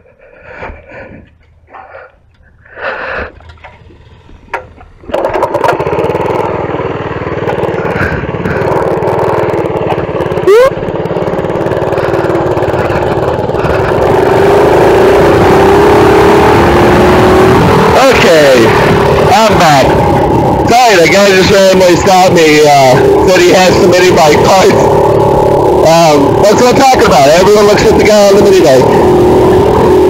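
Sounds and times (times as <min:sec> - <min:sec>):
mini bike engine running: 0:03.2 - 0:30.0.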